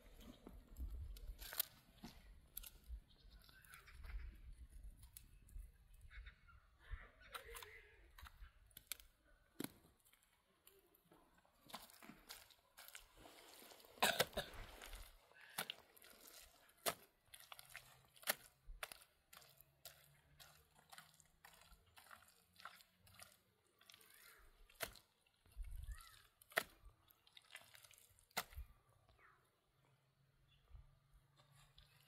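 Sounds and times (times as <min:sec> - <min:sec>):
wet mud squishing by hand: 0:00.0 - 0:06.2, 0:07.2 - 0:29.8, 0:31.2 - 0:32.0.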